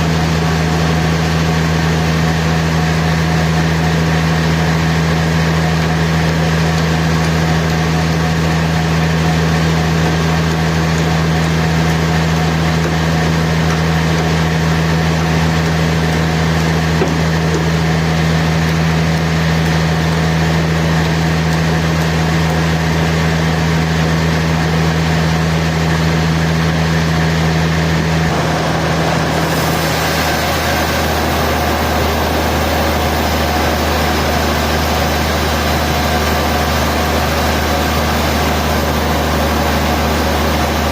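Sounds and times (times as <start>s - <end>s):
sawmill machinery humming: 0.0s - 40.9s.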